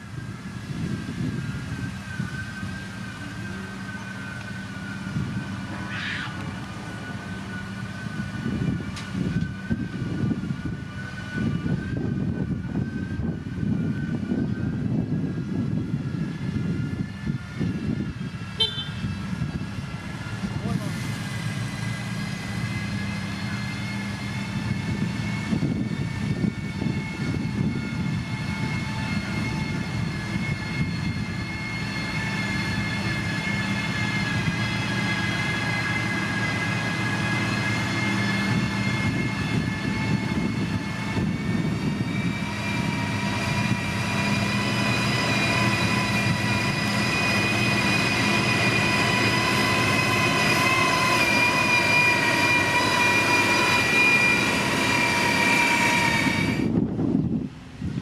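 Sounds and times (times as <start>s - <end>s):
high machine whine: 0.0s - 57.5s
diesel engine drone: 0.0s - 58.0s.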